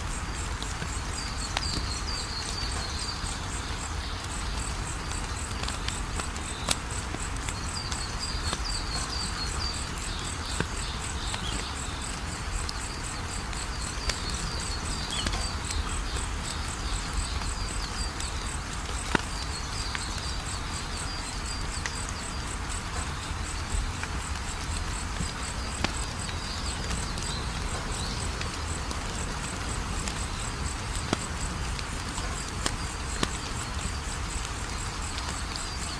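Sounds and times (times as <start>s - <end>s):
insects chirping: 0.0s - 35.9s
wood fire crackling and popping: 0.0s - 35.9s.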